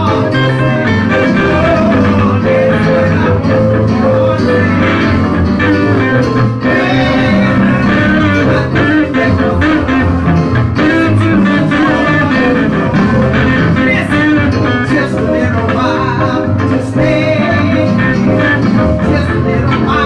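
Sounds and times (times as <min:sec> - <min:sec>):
bass line: 0:00.0 - 0:20.0
church band playing gospel music: 0:00.0 - 0:20.0
guitar: 0:00.0 - 0:20.0.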